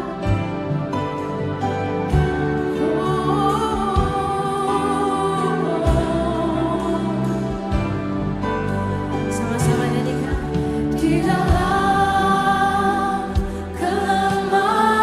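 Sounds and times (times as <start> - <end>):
worship song singing: 0.0 - 15.0.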